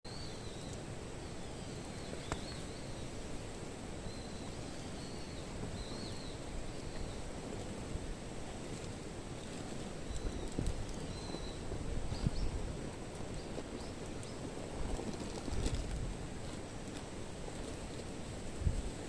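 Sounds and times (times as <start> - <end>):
low background noise: 0.1 - 19.0.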